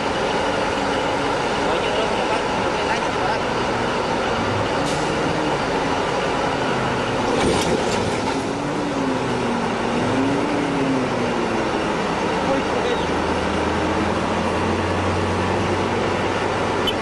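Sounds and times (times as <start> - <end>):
heavy vehicle machinery noise: 0.0 - 17.0.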